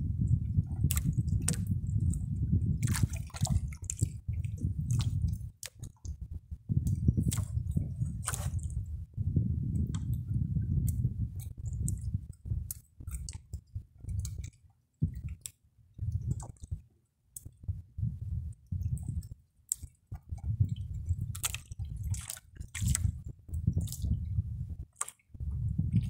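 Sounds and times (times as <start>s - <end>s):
water sloshing against boat hull: 0.3s - 26.0s.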